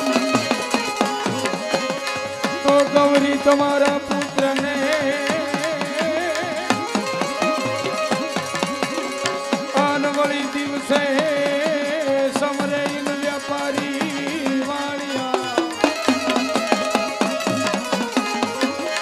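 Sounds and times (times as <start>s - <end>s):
hourglass drums beaten fast: 0.0s - 18.8s
small hand cymbals: 0.0s - 19.0s.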